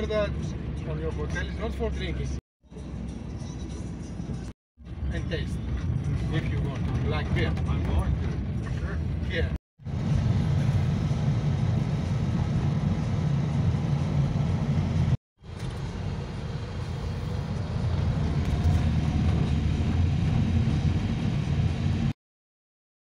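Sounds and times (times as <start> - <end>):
car interior road rumble: 0.0 - 22.1.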